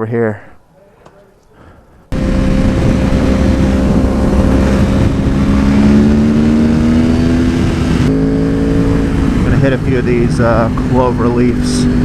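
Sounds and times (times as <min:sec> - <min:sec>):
motorcycle engine accelerating: 0:02.0 - 0:12.0.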